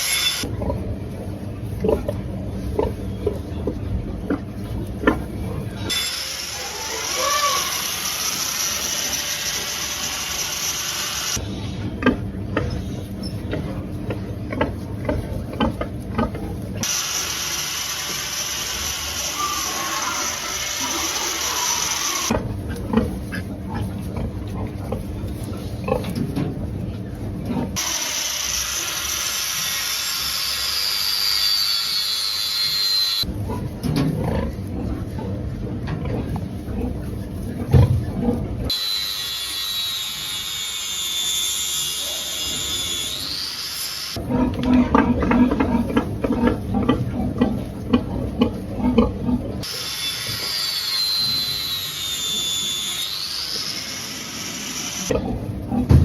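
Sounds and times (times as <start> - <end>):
pigs grunting and squealing: 1.7 - 17.0, 18.4 - 28.2, 30.2 - 38.7, 41.9 - 52.6, 55.0 - 56.0.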